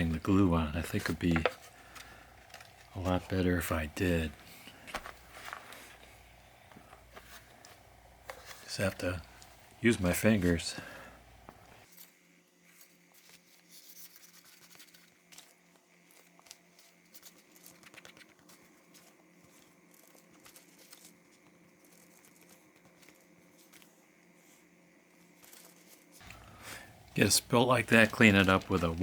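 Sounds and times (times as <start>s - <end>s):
low steady hum: 0.0s - 29.0s
paper rustling and crinkling: 0.0s - 29.0s.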